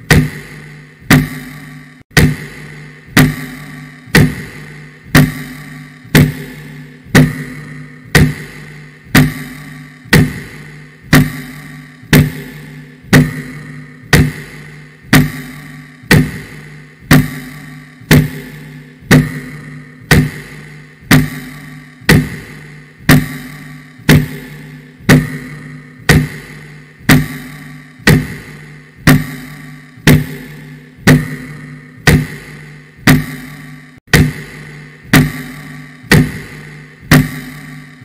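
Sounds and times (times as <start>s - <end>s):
low held tone: 0.0s - 38.0s
sharp ticking beat: 0.0s - 38.0s.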